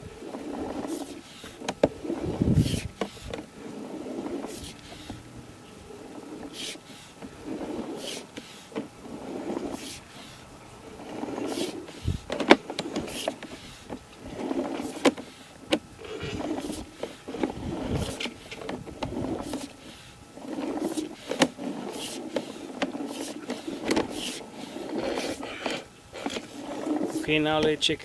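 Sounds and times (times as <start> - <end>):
camera scraping inside pipe: 0.1 - 28.0.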